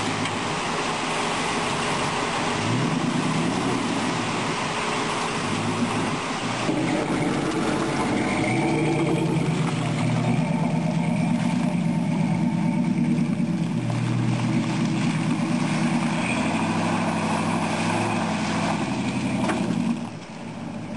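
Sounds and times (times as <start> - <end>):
mud and water sloshing: 0.0 - 20.9
truck engine revving: 0.0 - 20.9.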